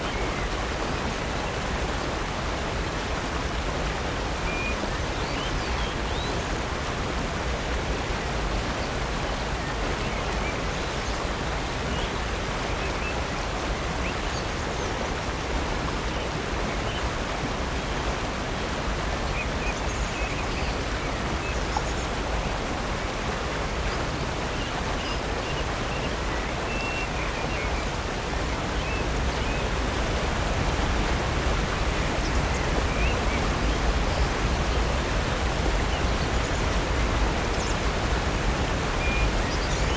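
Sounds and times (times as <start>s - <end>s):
rushing waterfall: 0.0s - 39.9s.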